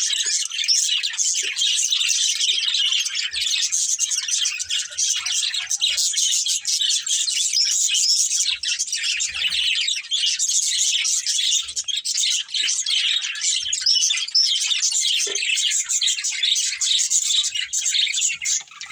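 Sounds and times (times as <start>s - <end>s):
budgerigars chirping: 0.0s - 18.9s.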